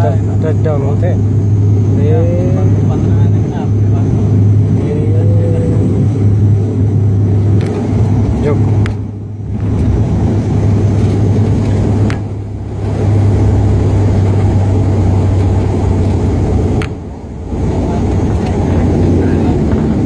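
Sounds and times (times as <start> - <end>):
airliner engines and propellers droning: 0.0 - 20.0.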